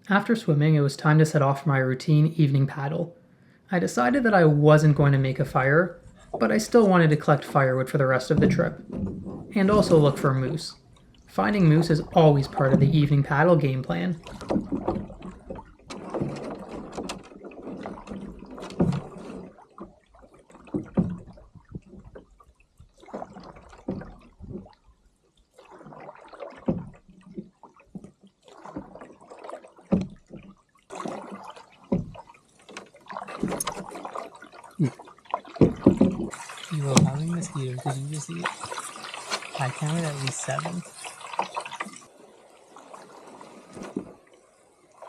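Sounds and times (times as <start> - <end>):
canoe paddle splashing in water: 4.0 - 45.0.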